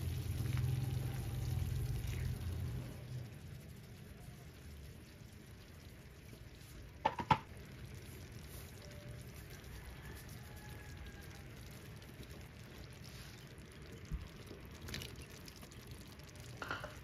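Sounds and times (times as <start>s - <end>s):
sauce bubbling in a pan: 0.0s - 17.0s.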